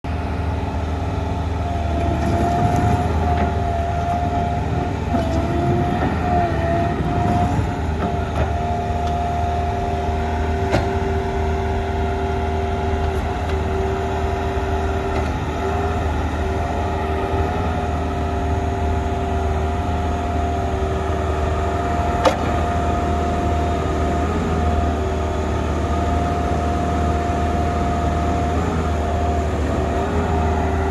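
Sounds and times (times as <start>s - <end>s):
diesel engine running with whine: 0.0s - 30.9s.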